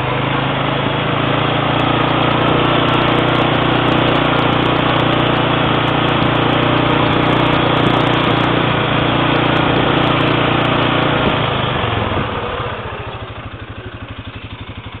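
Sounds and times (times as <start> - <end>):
quad bike engine: 0.0 - 15.0.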